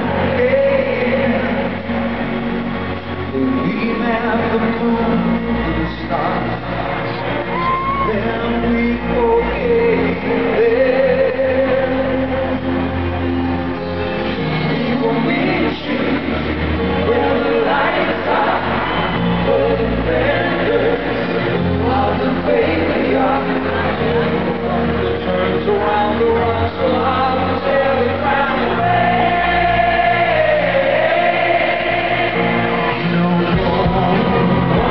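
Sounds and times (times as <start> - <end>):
live pop-rock band: 0.0 - 34.9
person singing: 0.0 - 34.9.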